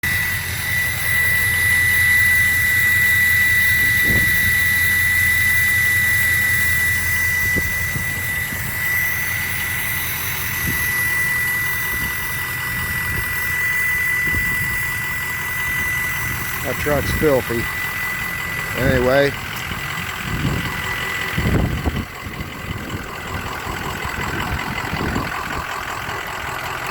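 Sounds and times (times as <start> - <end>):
diesel engine rumbling: 0.0 - 26.9
turbo whistle: 0.0 - 26.9.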